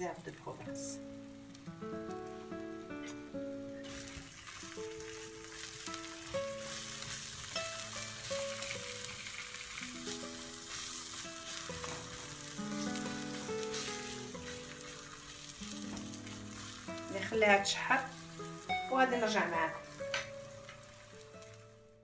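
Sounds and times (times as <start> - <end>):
slices sizzling in hot oil: 0.0 - 22.0.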